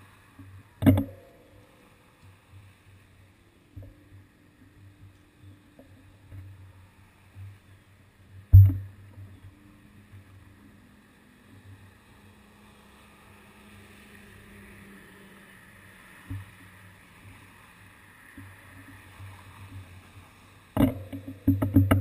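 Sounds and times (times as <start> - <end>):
muffled street traffic rumble: 0.0 - 22.0.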